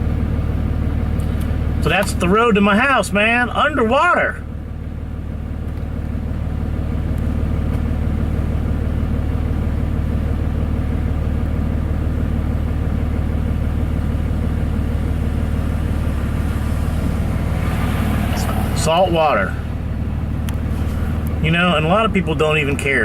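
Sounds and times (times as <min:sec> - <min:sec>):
truck engine humming: 0:00.0 - 0:23.0.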